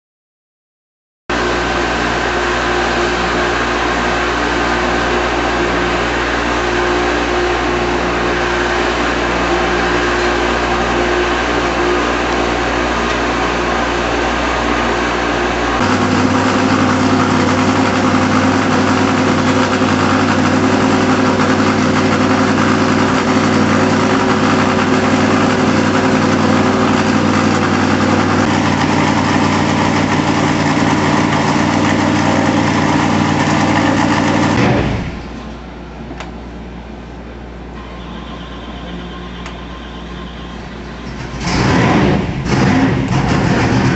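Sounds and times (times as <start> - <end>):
engine running on dyno: 1.3 - 43.9.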